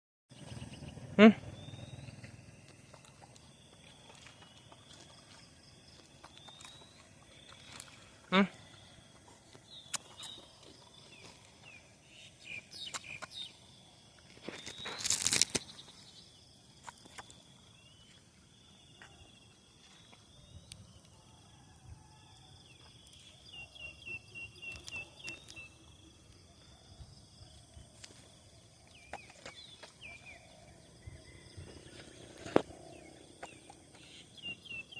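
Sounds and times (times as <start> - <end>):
birds chirping: 0.3 - 21.0, 23.0 - 26.7, 28.5 - 34.9.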